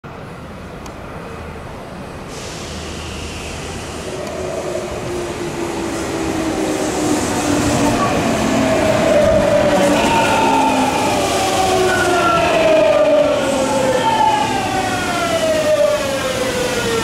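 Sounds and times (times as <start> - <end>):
wheel and rail noise: 0.1 - 17.0
train inverter whining: 2.8 - 17.0.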